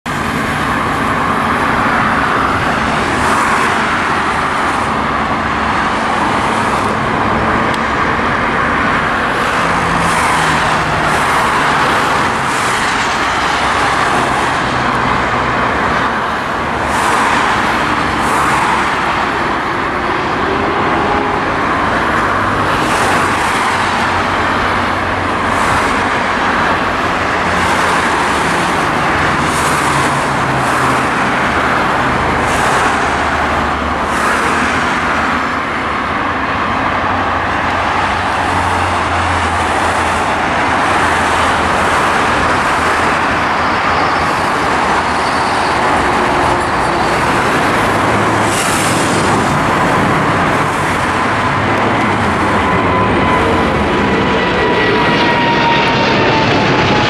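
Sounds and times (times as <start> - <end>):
road traffic roar: 0.0 - 57.0
vehicles passing: 0.1 - 57.0.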